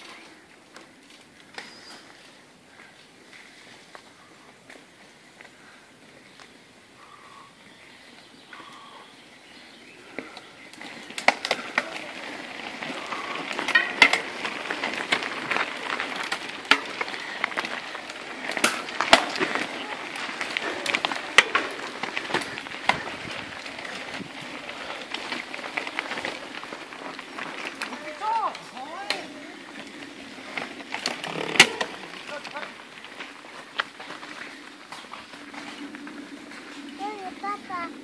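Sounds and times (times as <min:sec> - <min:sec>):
bike tyres crunching on gravel: 0:00.0 - 0:38.0
bikes clicking and rattling: 0:00.0 - 0:38.0.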